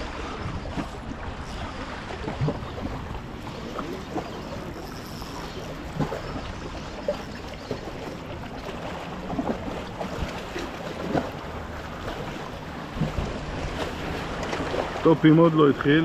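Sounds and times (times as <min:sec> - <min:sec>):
light knocks and splashes: 0:00.0 - 0:15.9
water lapping against rocks: 0:00.0 - 0:16.0.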